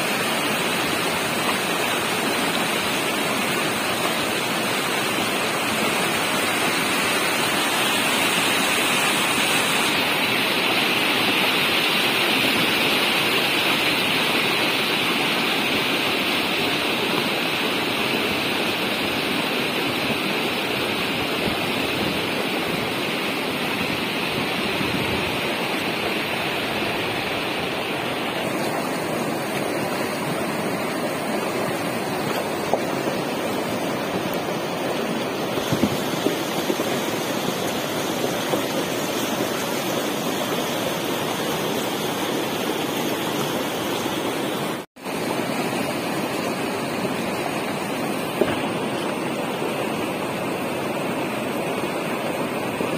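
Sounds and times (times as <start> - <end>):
river rushing over stones: 0.0 - 52.9.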